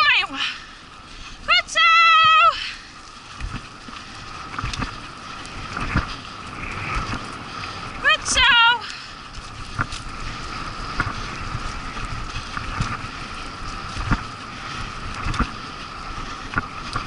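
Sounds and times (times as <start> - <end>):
scooter wheels rolling on dirt: 0.0 - 17.0
wheels knocking over bumps: 1.9 - 17.0
wind on microphone: 3.2 - 17.0.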